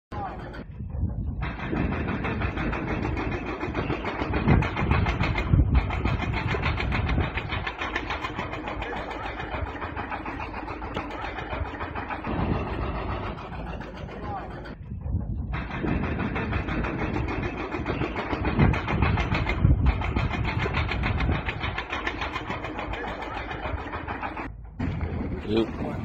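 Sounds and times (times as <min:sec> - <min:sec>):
diesel engine rattling: 0:01.4 - 0:26.0.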